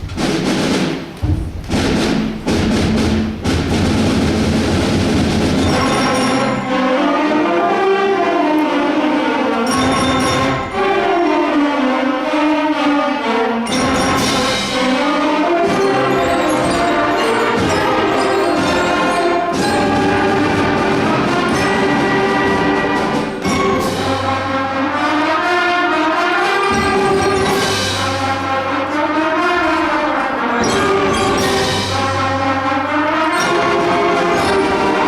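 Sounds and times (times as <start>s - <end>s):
school ensemble with brass: 0.0s - 35.0s.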